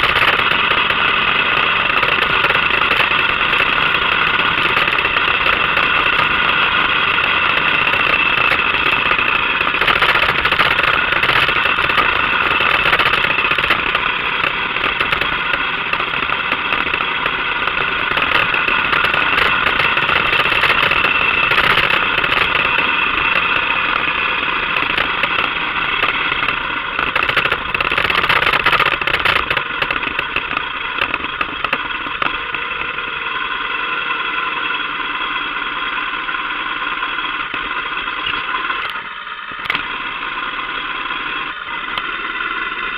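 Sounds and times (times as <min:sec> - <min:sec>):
motorcycle engine running: 0:00.0 - 0:42.9
road and wind noise: 0:00.0 - 0:42.9.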